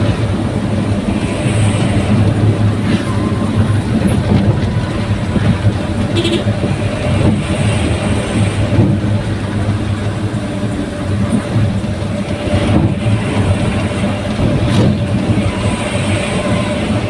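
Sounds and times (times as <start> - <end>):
pickup engine rumbling: 0.0 - 17.0.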